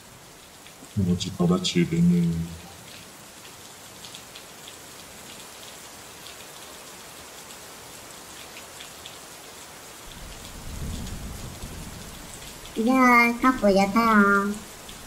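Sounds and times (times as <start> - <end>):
heavy rain: 0.0 - 15.0
raindrops pattering: 0.3 - 15.0.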